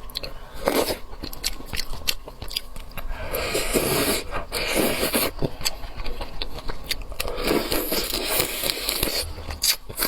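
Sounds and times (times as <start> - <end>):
person chewing and slurping: 0.1 - 10.0.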